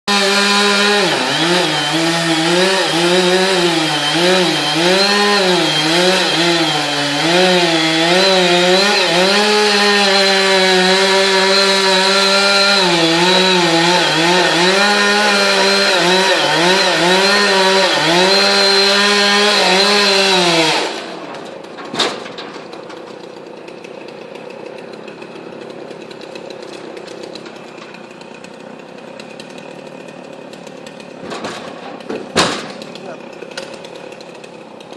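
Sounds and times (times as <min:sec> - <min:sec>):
chainsaw cutting wood: 0:00.1 - 0:34.9.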